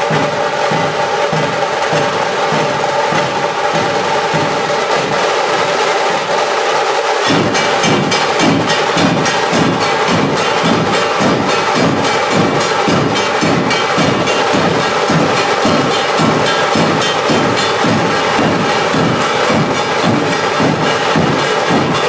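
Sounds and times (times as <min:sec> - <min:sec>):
dhol drums beating: 0:00.0 - 0:22.0
tasha drum strokes: 0:00.0 - 0:22.0.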